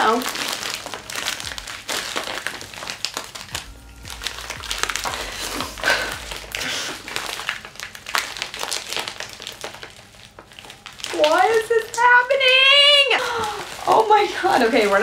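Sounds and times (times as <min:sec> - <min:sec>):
envelope crinkling and rustling: 0:00.0 - 0:15.0.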